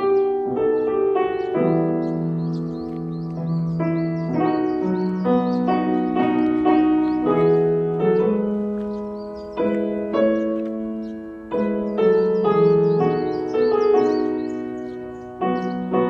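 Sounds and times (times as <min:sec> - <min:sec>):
slow gentle piano notes: 0:00.0 - 0:16.0.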